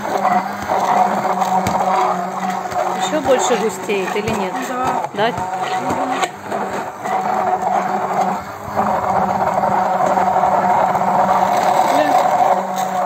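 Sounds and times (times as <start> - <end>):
immersion blender motor humming: 0.0 - 13.0.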